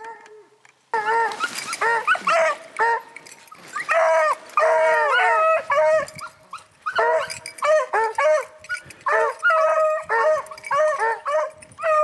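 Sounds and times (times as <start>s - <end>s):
hounds baying: 1.0s - 12.0s.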